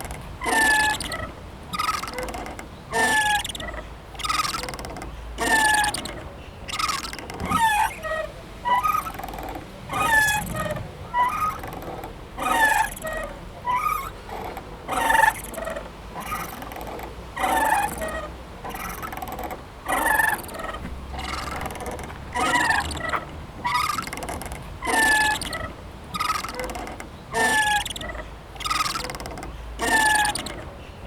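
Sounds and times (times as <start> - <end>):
swing creaking and squeaking: 0.0 - 31.0.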